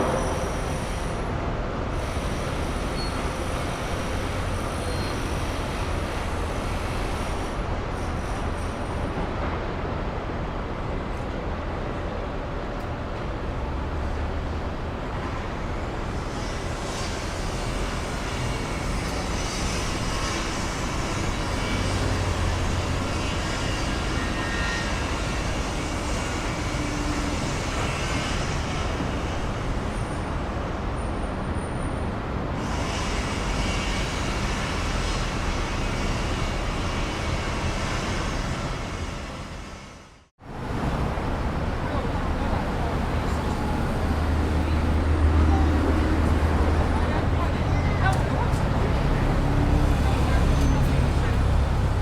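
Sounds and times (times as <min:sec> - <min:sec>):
city traffic: 0:00.0 - 0:52.0.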